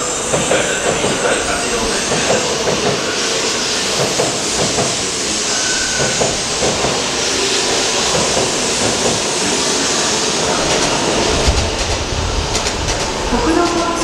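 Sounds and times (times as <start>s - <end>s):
train rushing hiss: 0.0s - 14.0s.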